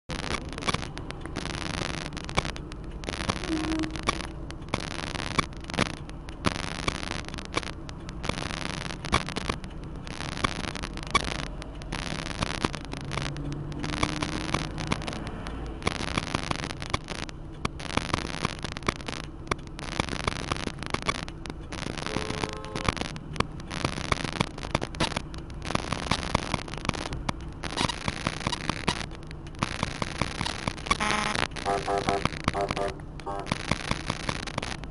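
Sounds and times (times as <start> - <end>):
crackling hiss: 0.1 - 34.9
sharp clicks: 0.1 - 34.9.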